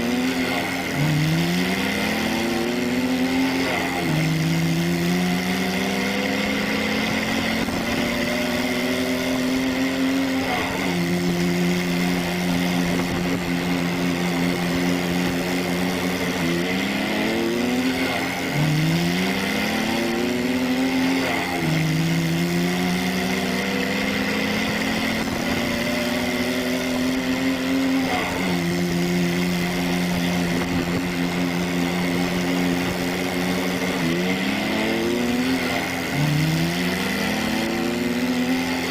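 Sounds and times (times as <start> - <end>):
steady high whine: 0.0 - 38.9
toy tractor engine revving: 0.0 - 38.9.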